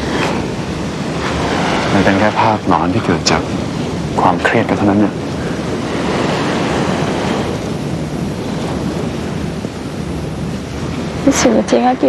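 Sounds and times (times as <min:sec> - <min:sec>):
sea waves washing on shore: 0:00.0 - 0:12.0.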